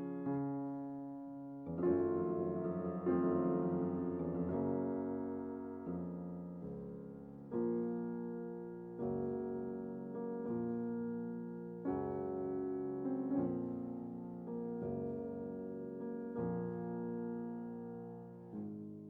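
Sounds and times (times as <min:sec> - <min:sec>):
slow soft piano chords: 0:00.0 - 0:19.0.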